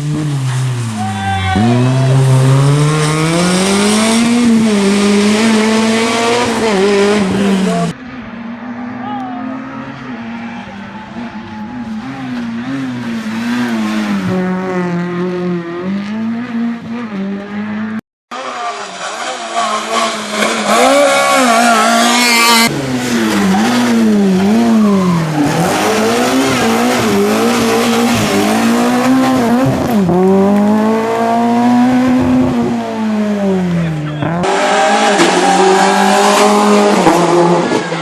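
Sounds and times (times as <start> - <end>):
rally car engines revving hard: 0.0 - 38.0.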